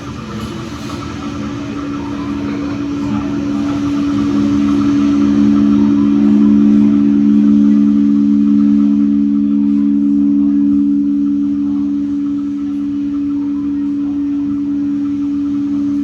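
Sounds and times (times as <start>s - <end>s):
low droning tones: 0.0s - 16.0s.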